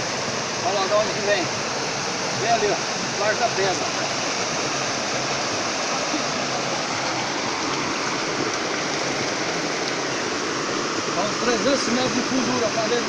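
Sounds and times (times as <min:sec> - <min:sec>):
stream splashing over rocks: 0:00.0 - 0:13.0.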